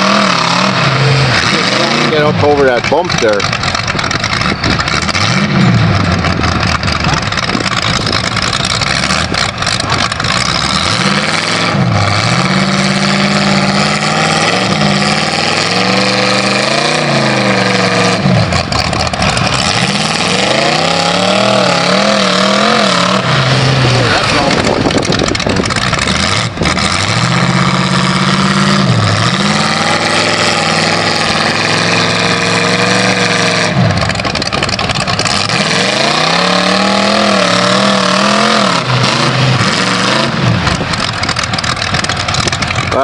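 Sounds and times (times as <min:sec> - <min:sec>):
diesel engine revving: 0:00.0 - 0:43.0
loud steady rushing noise: 0:00.0 - 0:43.0.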